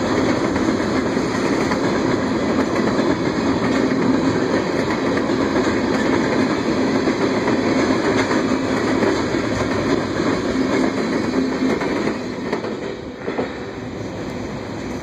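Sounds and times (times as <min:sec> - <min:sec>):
train wheels clattering over joints: 0:00.0 - 0:15.0.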